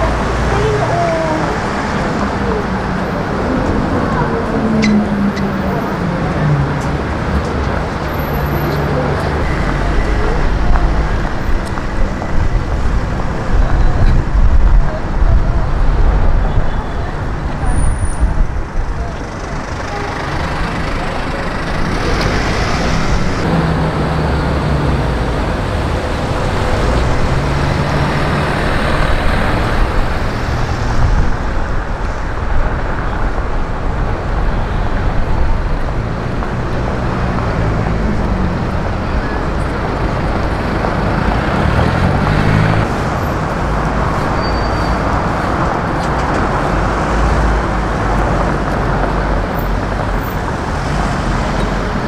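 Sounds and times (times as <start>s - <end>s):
low traffic rumble: 0.0s - 52.0s
vehicle engines passing: 0.0s - 52.0s.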